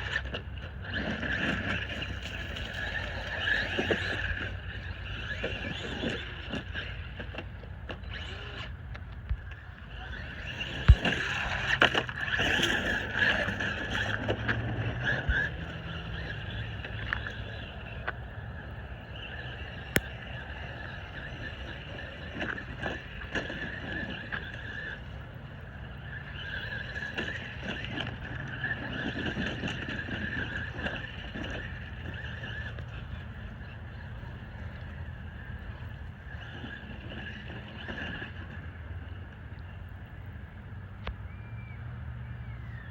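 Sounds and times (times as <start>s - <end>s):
electric toy truck motor whine: 0.0s - 42.9s.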